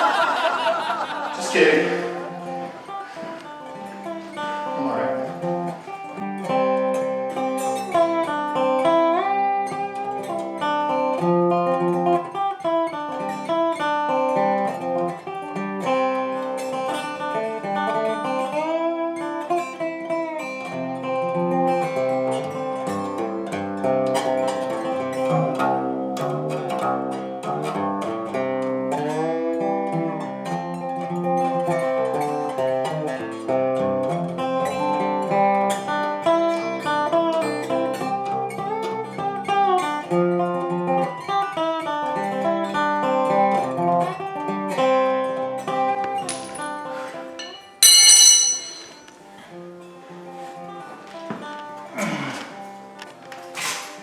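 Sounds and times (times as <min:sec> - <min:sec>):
blues acoustic guitar melody: 0:00.0 - 0:48.3, 0:49.0 - 0:54.0.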